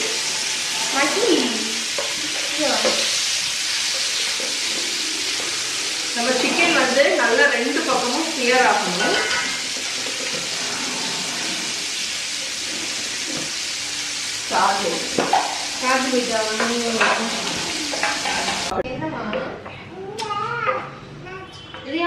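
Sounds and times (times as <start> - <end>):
chicken sizzling in frying pan: 0.0 - 18.8.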